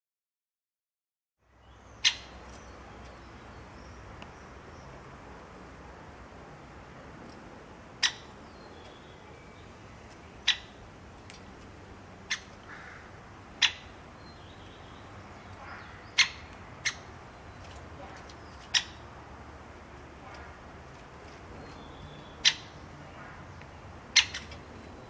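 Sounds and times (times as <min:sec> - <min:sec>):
bird chip calls: 0:01.9 - 0:04.9, 0:07.2 - 0:11.5, 0:12.2 - 0:25.0.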